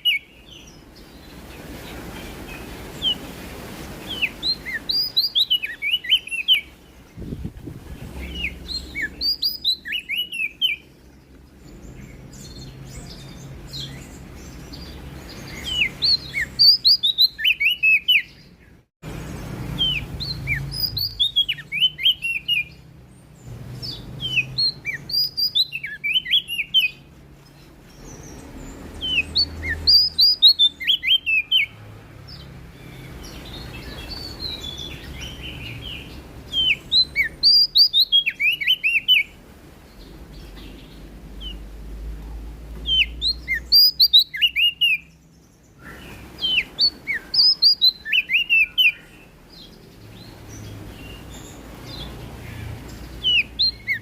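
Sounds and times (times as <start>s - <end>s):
songbird chirping: 0.0s - 54.0s.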